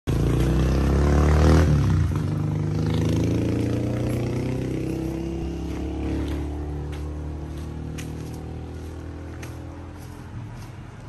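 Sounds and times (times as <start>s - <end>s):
vehicle engine running: 0.1s - 11.0s.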